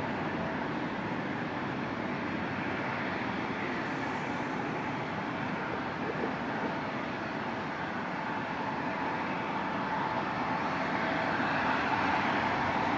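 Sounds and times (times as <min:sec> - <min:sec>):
faint jet whine: 0:00.0 - 0:12.9.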